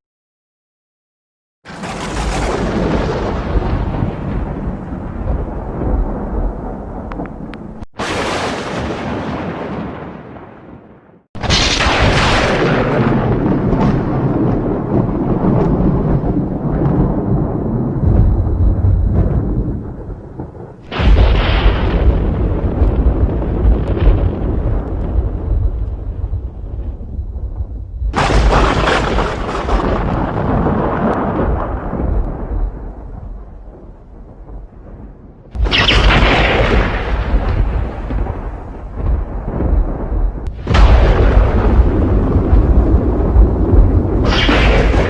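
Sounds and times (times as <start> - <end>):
thunder crack: 1.7 - 45.0
thunder rumbling: 1.7 - 45.0.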